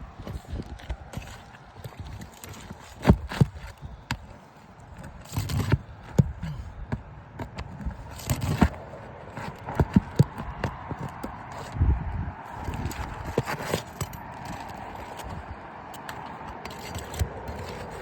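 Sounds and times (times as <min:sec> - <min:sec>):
hand tools knocking and scraping: 0:00.1 - 0:11.8, 0:12.5 - 0:18.0.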